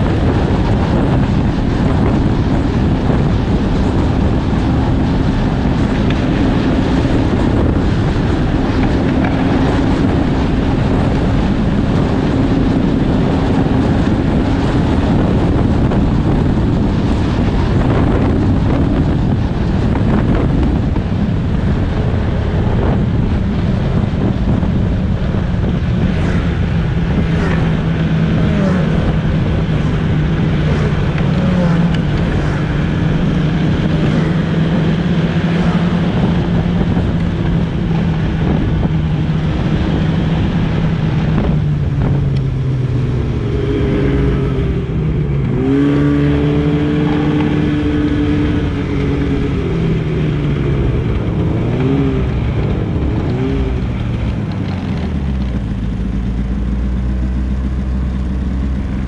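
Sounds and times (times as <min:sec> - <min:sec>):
snowmobile engine running: 0:00.0 - 0:59.0
wind rushing over microphone: 0:00.0 - 0:59.0.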